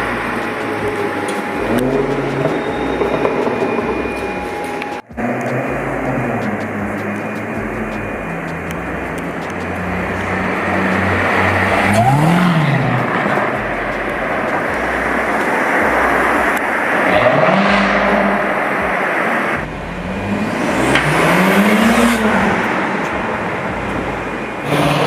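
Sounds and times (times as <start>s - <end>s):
car engine revving: 0.0s - 25.0s
traffic rumble: 0.0s - 25.0s.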